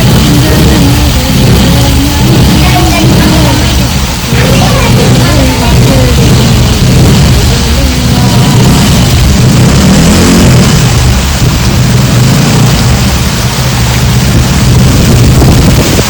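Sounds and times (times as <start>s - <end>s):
deep low rumble: 0.0s - 16.0s
heavy rain rushing: 0.0s - 16.0s.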